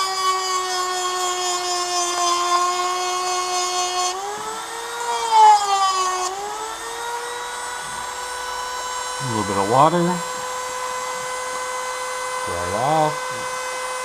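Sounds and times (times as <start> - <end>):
rotary tool grinding metal: 0.0 - 14.0.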